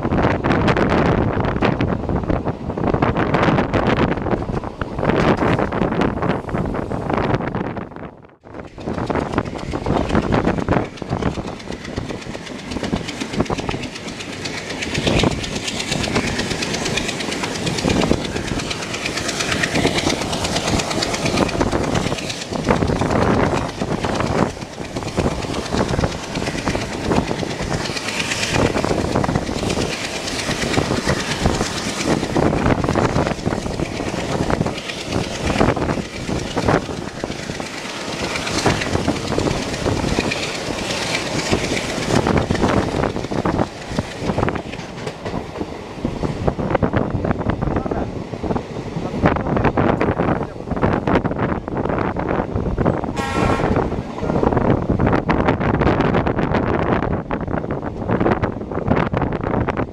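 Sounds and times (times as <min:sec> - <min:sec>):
rush of running noise and wind: 0:00.0 - 0:59.9
train wheels clattering on rails: 0:00.3 - 0:07.1, 0:08.4 - 0:59.9.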